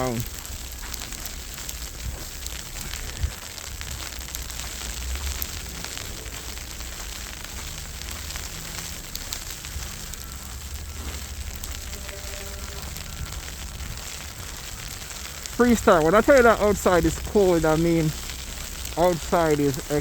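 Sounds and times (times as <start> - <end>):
crackling hiss of falling snow: 0.0 - 20.0
wind rumbling on microphone: 0.0 - 20.0.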